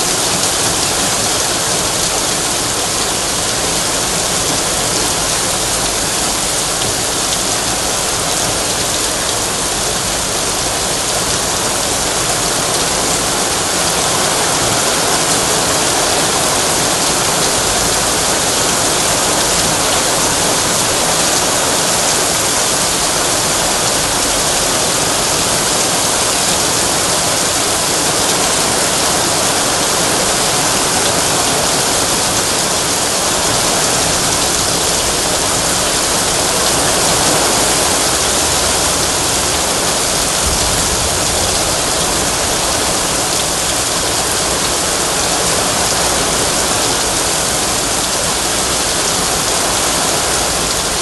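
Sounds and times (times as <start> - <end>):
heavy rain on asphalt: 0.0 - 51.0.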